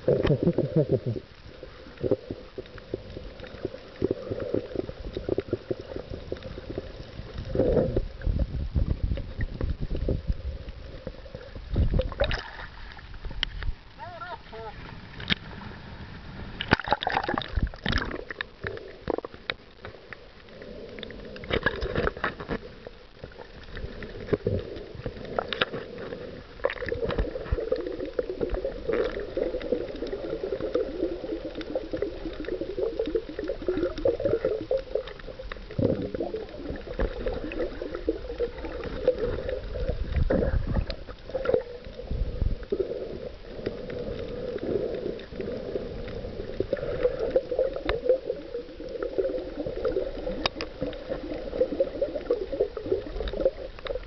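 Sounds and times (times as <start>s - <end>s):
underwater gurgling and sloshing: 0.0s - 54.0s.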